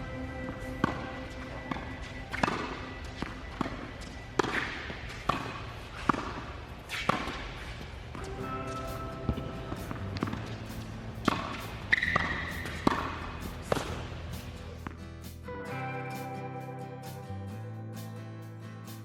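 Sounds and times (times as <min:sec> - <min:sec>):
background music: 0:00.0 - 0:06.4, 0:08.2 - 0:19.0.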